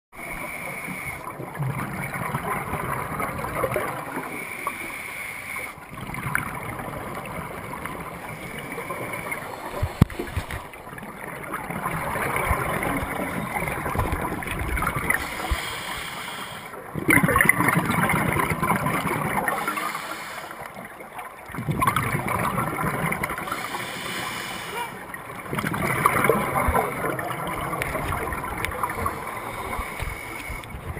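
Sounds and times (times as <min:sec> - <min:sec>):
regulator bubbles underwater: 0:00.2 - 0:30.9.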